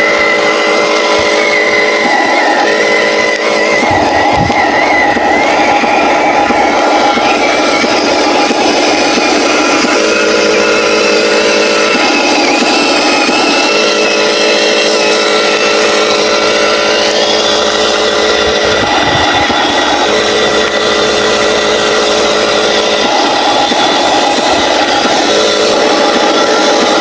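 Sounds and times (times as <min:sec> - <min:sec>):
toy truck motor drone: 0:00.0 - 0:27.0.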